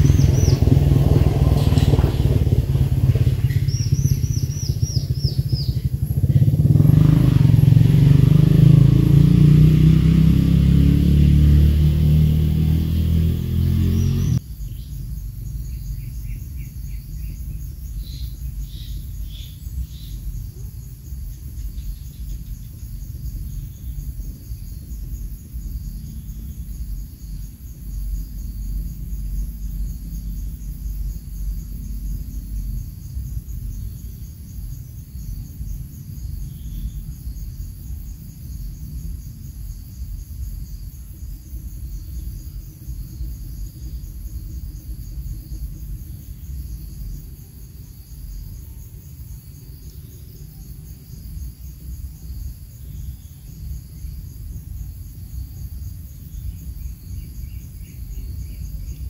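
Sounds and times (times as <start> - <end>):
insects trilling: 0.0 - 59.0
wind rumble on microphone: 0.0 - 59.0.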